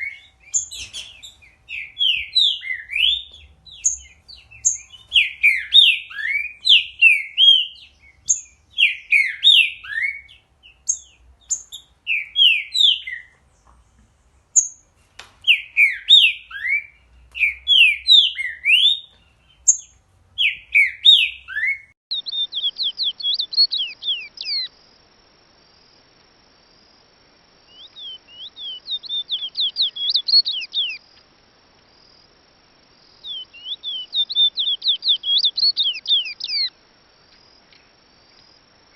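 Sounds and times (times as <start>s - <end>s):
rapid high bird notes: 0.0s - 24.7s, 27.7s - 31.0s, 33.1s - 36.8s
sweeping whistled birdsong: 0.0s - 24.8s, 26.7s - 38.9s.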